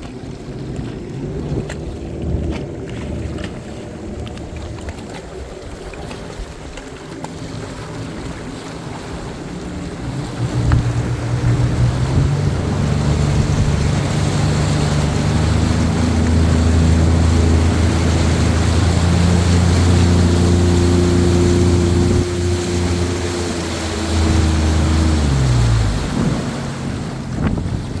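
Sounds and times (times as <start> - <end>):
motorboat engines droning: 0.0 - 28.0
water rushing: 0.0 - 28.0
wind: 0.0 - 28.0.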